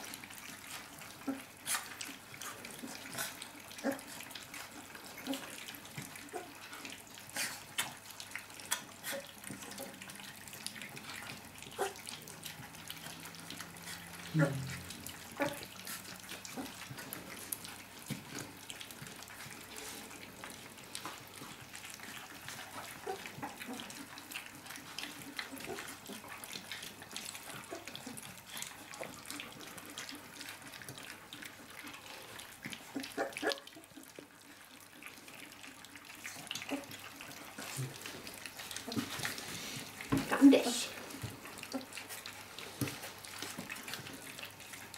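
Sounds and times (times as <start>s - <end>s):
puppies lapping food: 0.0s - 44.9s.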